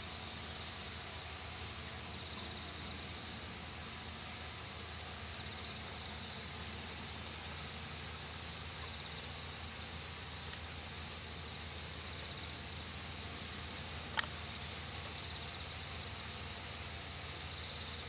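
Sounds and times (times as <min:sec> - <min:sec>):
outdoor hiss: 0:00.0 - 0:18.0.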